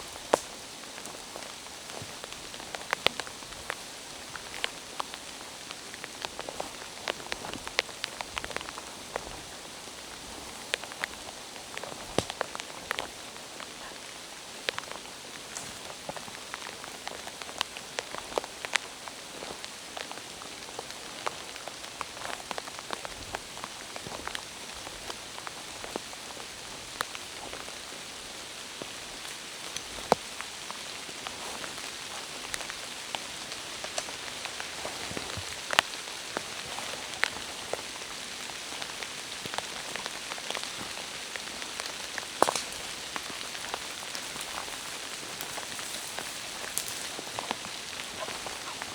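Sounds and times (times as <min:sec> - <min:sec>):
rain falling: 0:00.0 - 0:48.9
raindrops ticking close by: 0:00.0 - 0:48.9.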